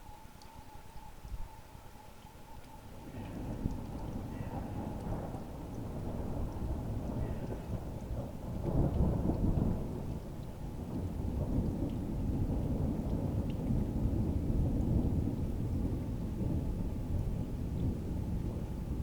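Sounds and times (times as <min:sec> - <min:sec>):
thunder rumbling: 0:03.3 - 0:19.0.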